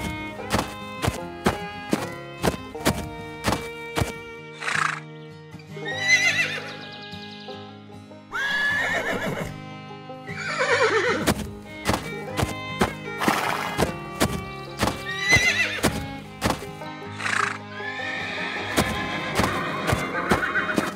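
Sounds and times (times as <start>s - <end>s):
horses neighing: 0.0s - 5.1s, 5.8s - 7.4s, 8.3s - 9.6s, 10.3s - 20.9s
background music: 0.0s - 20.9s.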